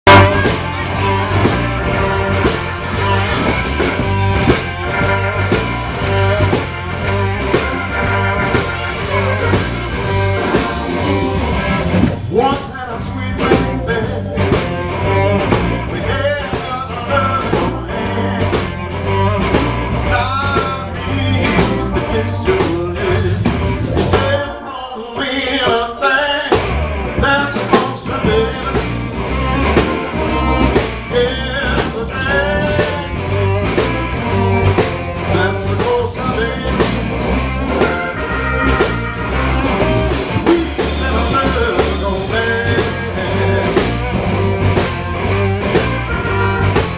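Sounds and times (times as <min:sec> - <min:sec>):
bass and drum groove: 0:00.0 - 0:24.6, 0:25.2 - 0:46.9
blues band playing live: 0:00.0 - 0:46.9
electric guitar: 0:00.0 - 0:46.9.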